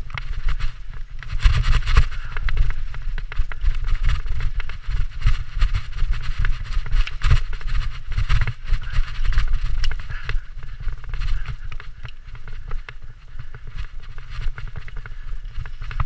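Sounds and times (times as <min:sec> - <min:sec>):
bike clicks and rattles: 0:00.0 - 0:16.0
bike tyres on dirt: 0:00.0 - 0:16.0
wind rumble on microphone: 0:00.0 - 0:16.0.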